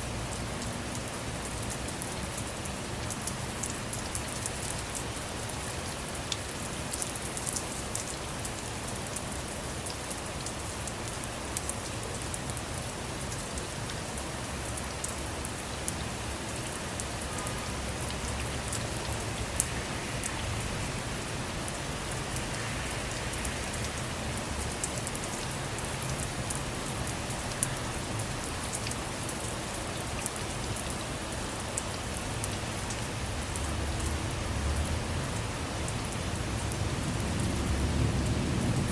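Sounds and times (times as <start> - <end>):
rain falling on a car: 0.0 - 38.9.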